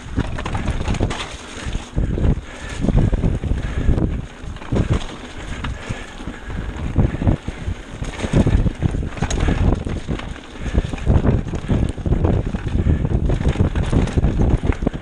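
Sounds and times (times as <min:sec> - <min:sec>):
bike rattling and knocking: 0:00.0 - 0:15.0
bike tyres rumbling: 0:00.0 - 0:15.0
wind rushing over microphone: 0:00.0 - 0:15.0.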